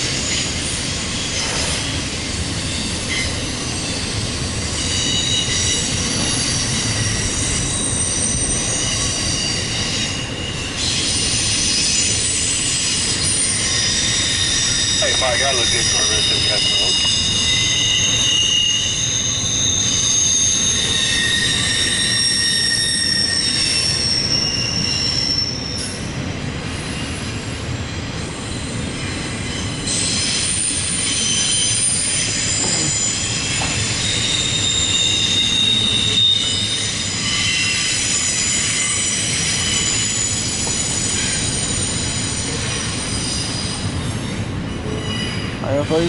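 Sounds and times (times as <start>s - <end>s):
rumble of rail cars rolling: 0.0s - 46.0s
train wheels squealing: 0.0s - 46.0s.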